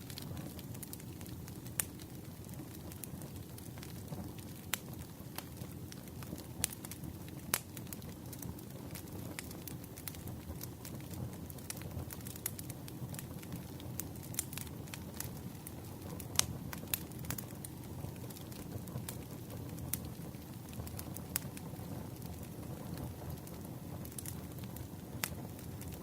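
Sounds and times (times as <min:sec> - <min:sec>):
burning wood crackling and popping: 0:00.0 - 0:26.0
campfire flames rumbling: 0:00.0 - 0:26.0.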